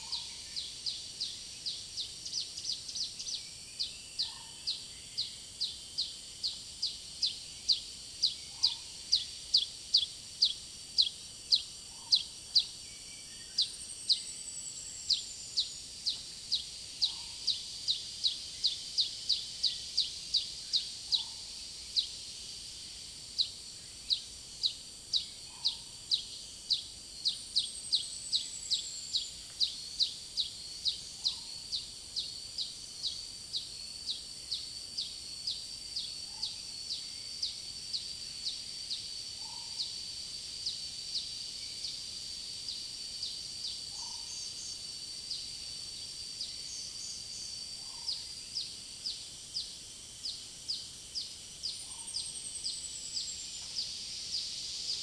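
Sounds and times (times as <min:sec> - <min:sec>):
cicada whine: 0:00.0 - 0:55.0.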